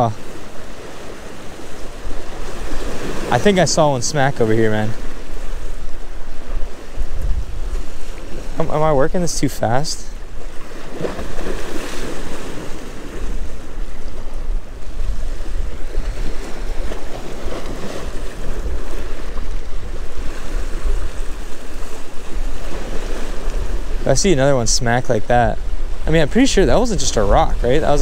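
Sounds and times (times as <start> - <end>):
waves breaking on rocks: 0.0 - 28.0
wind buffeting microphone: 4.3 - 9.2, 10.2 - 28.0.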